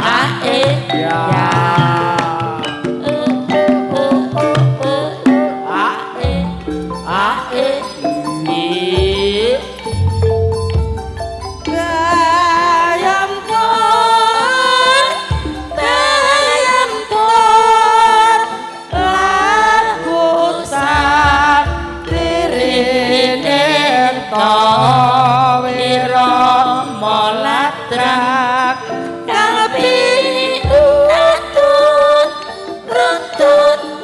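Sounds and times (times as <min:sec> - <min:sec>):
woman singing: 0:00.0 - 0:09.9, 0:11.6 - 0:34.0
metallophone notes: 0:00.0 - 0:34.0.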